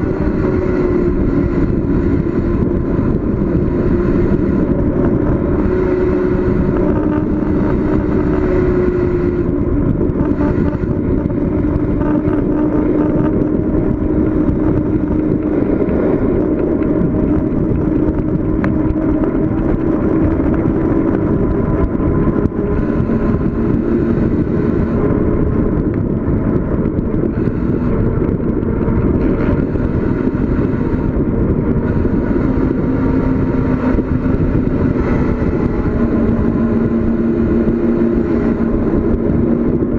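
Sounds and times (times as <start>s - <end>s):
low drifting hum: 0.0s - 39.9s
road and wind noise: 0.0s - 39.9s.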